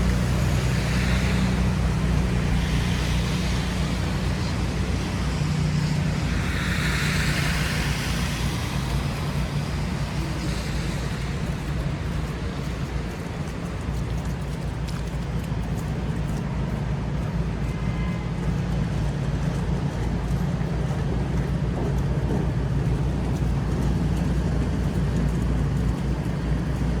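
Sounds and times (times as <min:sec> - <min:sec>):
traffic passing: 0:00.0 - 0:27.0.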